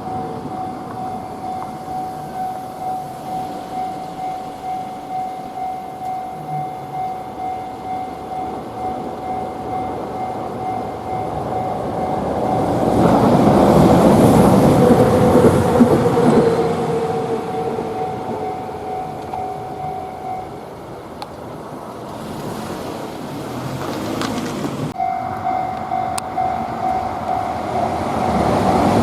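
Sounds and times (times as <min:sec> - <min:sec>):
level-crossing bell clanging: 0:00.0 - 0:21.2, 0:24.9 - 0:29.0
tram rumble passing: 0:00.0 - 0:29.0.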